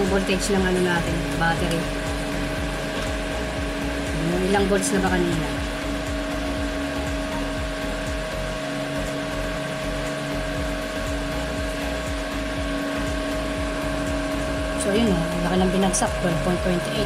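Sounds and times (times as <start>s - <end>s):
air cooler fan whirring: 0.0s - 17.0s.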